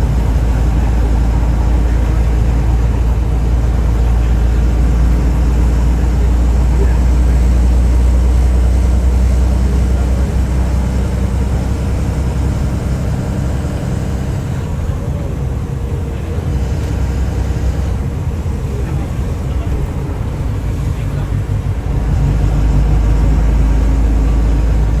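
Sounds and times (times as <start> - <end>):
vehicle rumble: 0.0 - 25.0.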